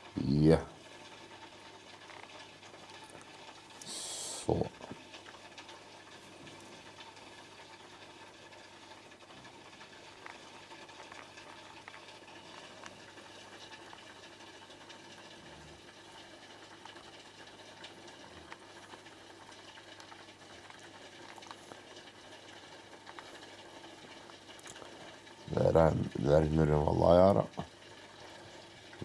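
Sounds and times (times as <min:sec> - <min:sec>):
aquarium water bubbling: 0:00.1 - 0:29.0
small water patters: 0:00.8 - 0:29.0.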